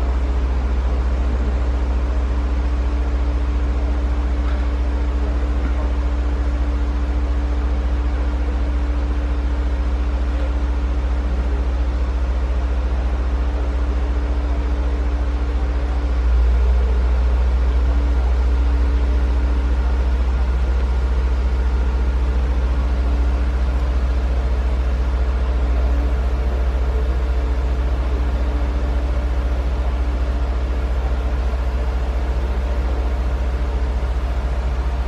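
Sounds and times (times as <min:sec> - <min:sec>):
diesel engine rumbling: 0:00.0 - 0:35.0
steady hum: 0:00.0 - 0:35.0.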